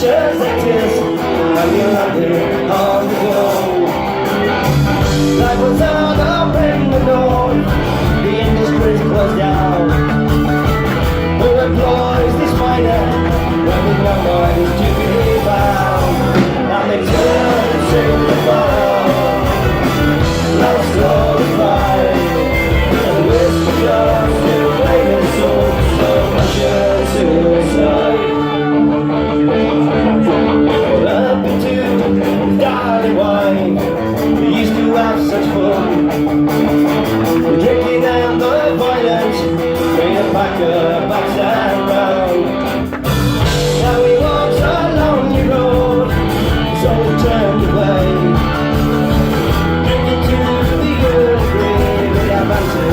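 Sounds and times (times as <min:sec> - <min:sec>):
guitar lines: 0:00.0 - 0:52.9
rock band playing: 0:00.0 - 0:52.9.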